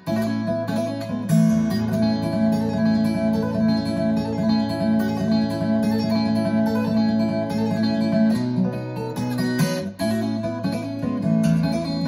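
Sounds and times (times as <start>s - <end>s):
acoustic guitar music over loudspeakers: 0.0s - 12.0s.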